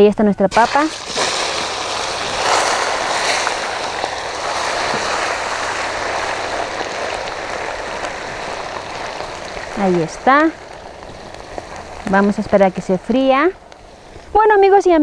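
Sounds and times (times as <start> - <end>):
hot oil sizzling and bubbling: 0.5 - 14.6.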